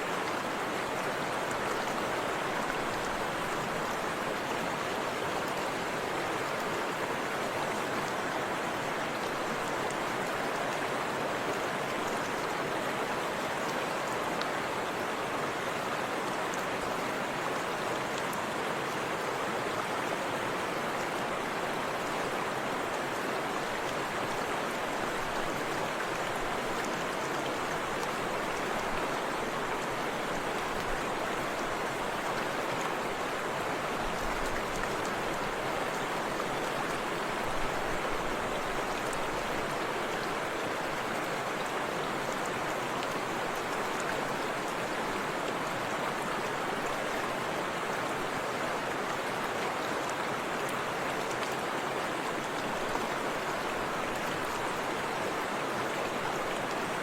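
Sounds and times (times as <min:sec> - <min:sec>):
river and waterfall rushing: 0:00.0 - 0:57.0.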